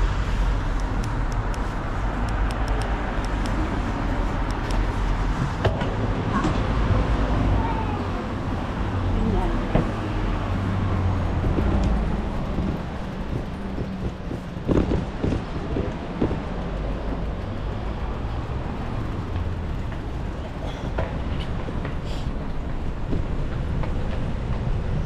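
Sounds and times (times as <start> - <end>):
low engine hum: 0.0 - 25.0
street traffic noise: 0.0 - 25.0.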